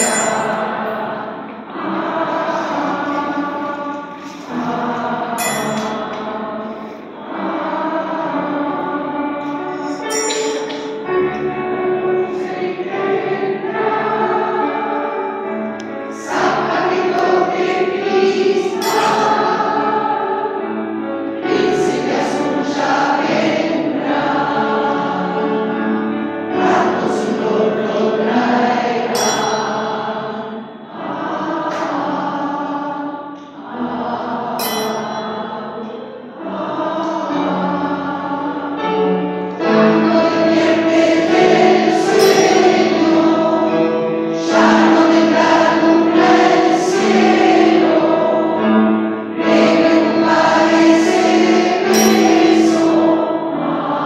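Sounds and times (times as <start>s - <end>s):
choir singing: 0.0s - 54.0s
upright piano: 0.0s - 54.0s.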